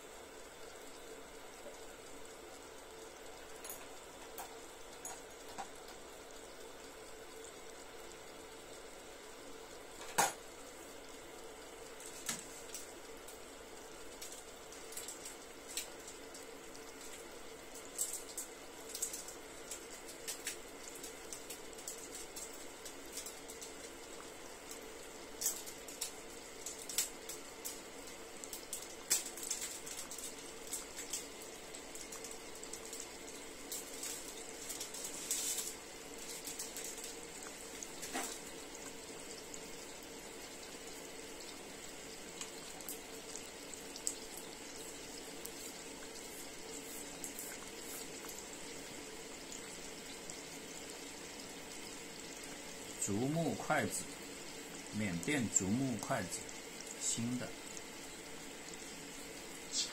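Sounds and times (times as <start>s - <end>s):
buns sizzling in hot oil: 0.0s - 59.9s
oil popping and crackling: 0.2s - 59.9s.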